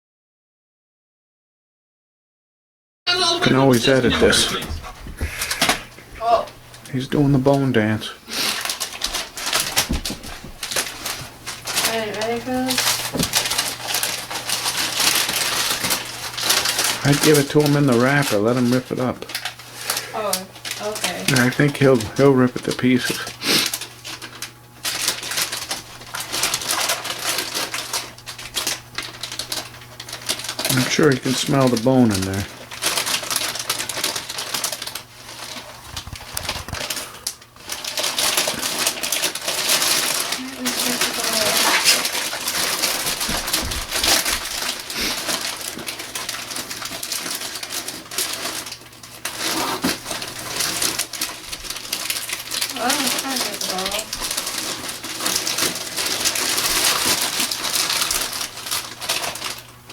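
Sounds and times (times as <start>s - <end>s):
wrapping paper crinkling and tearing: 3.1s - 59.9s.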